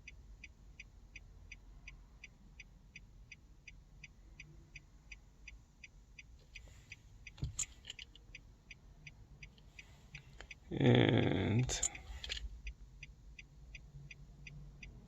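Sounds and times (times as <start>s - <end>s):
car hazard flasher ticking: 0.0s - 15.0s.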